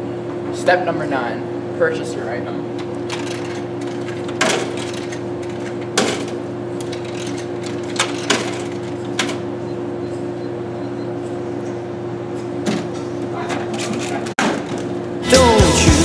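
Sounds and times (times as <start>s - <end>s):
vending machine humming: 0.0s - 16.0s.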